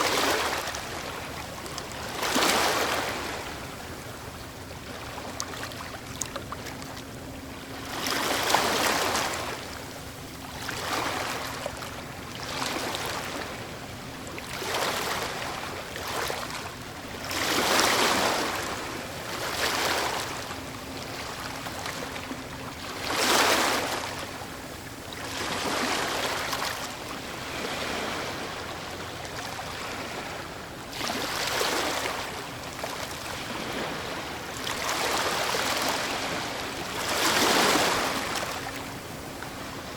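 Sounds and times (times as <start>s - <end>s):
steady surf wash: 0.0s - 6.0s, 7.2s - 39.9s
waves breaking: 0.0s - 39.9s.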